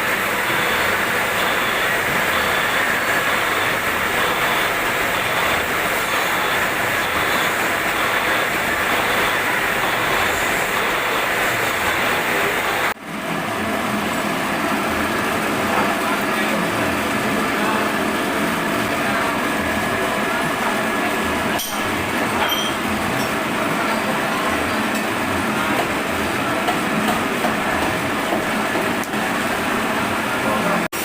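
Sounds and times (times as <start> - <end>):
metal lathe running: 0.0 - 31.0.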